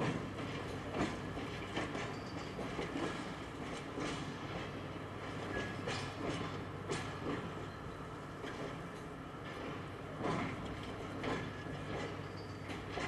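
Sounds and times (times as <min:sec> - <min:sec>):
train wagons rumbling on rails: 0:00.0 - 0:13.0.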